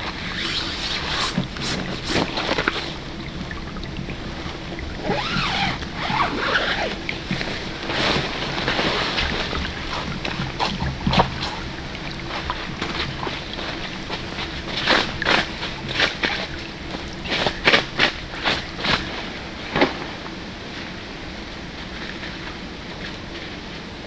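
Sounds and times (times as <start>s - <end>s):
river water sloshing: 0.0s - 24.0s.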